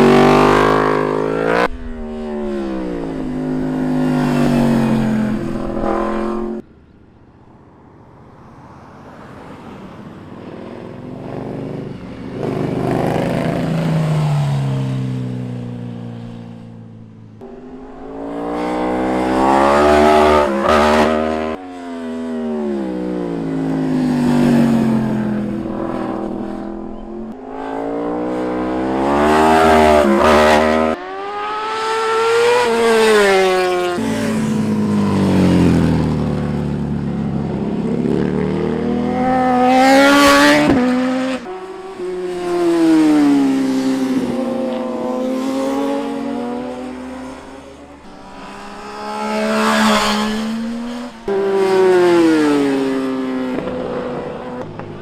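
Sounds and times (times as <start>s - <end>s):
motorcycles revving past: 0.0s - 55.0s.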